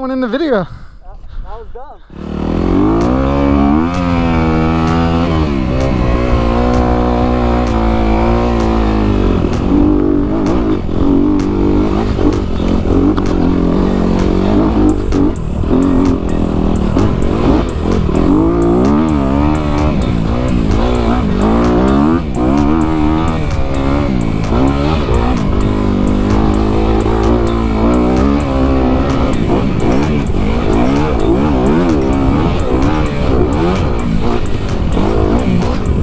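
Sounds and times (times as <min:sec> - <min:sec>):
dirt bike engine revving: 0:02.1 - 0:36.0.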